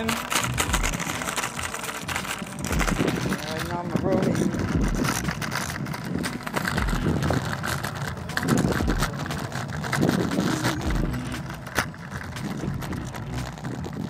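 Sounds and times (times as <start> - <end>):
scooter wheels rolling on asphalt: 0.0 - 14.0.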